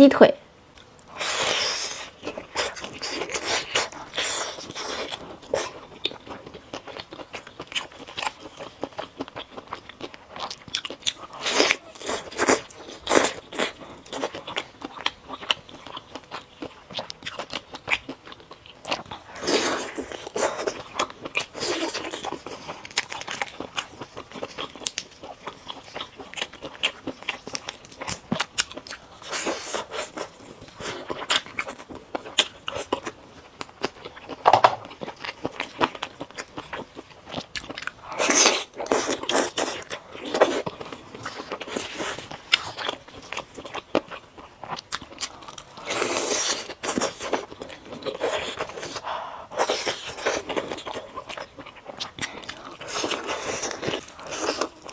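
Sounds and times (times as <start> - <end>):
person chewing and crunching: 0.7 - 54.9.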